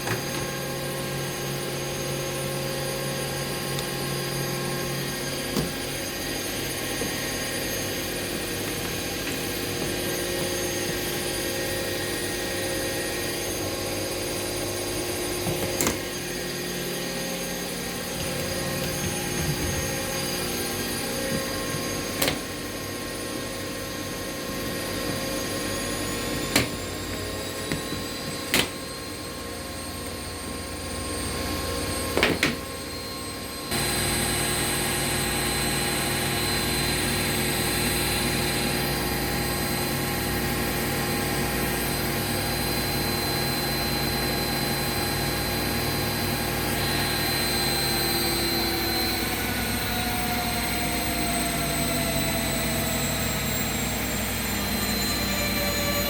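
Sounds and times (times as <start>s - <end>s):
washing machine spin whine: 0.0s - 56.0s.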